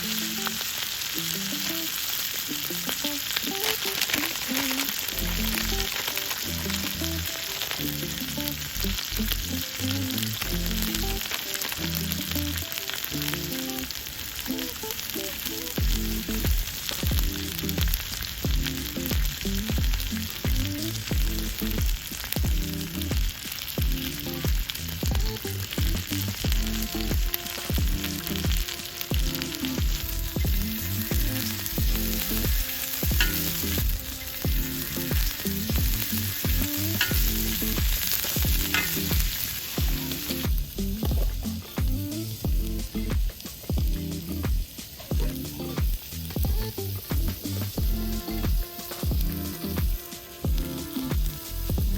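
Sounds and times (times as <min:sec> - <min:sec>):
background music: 0:00.0 - 0:51.9
food sizzling in a pan: 0:00.0 - 0:51.9.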